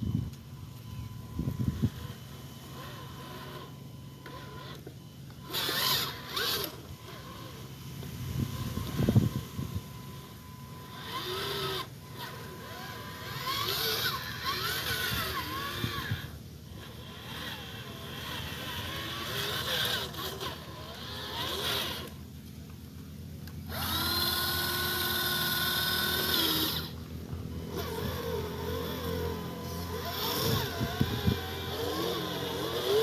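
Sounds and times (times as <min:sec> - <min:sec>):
toy truck motor whining: 0:00.0 - 0:22.4, 0:23.4 - 0:33.0.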